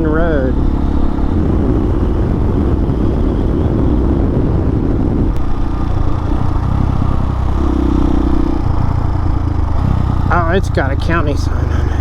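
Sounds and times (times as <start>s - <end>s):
motorcycle engine running: 0.0s - 12.0s
road noise: 0.0s - 12.0s
wind noise: 0.0s - 12.0s.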